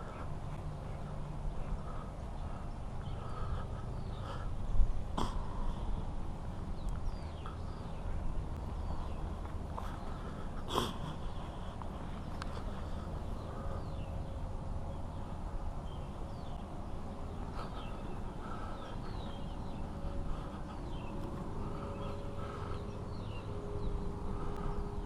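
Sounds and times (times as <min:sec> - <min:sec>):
birds chirping: 0:00.0 - 0:25.0
low outdoor rumble: 0:00.0 - 0:25.0.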